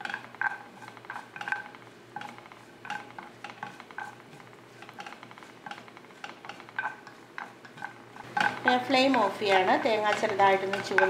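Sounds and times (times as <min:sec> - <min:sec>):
spatula scraping and tapping pan: 0:00.0 - 0:11.0.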